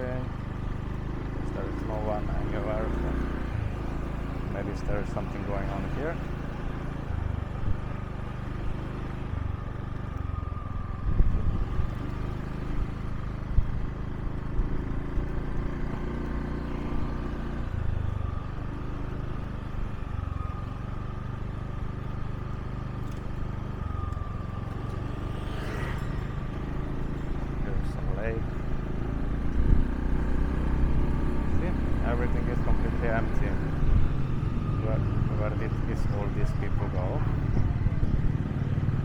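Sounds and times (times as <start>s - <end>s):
small motorbike engine running: 0.0s - 39.0s.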